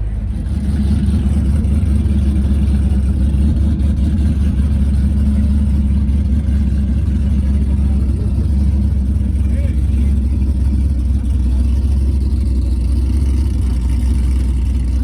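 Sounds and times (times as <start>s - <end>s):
car engine running with low rumble: 0.0s - 15.0s.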